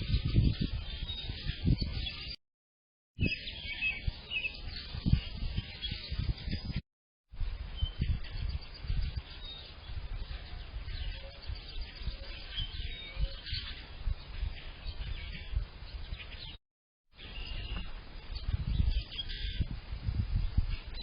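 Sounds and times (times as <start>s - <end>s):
small songbirds chirping: 0.0s - 2.4s, 3.2s - 6.8s, 7.4s - 21.0s
wind on microphone: 0.0s - 2.4s, 3.2s - 16.6s, 17.2s - 21.0s.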